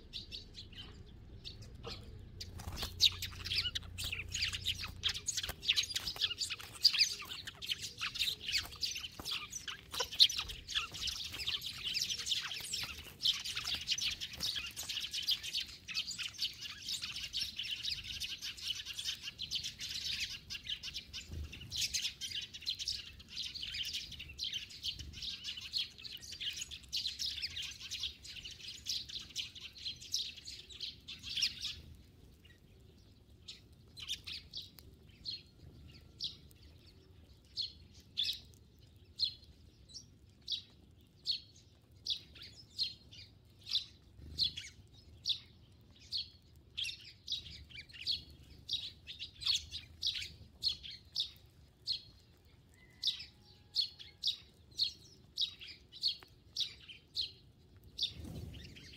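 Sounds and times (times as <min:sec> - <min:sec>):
sparrows chirping: 0:00.0 - 0:58.9.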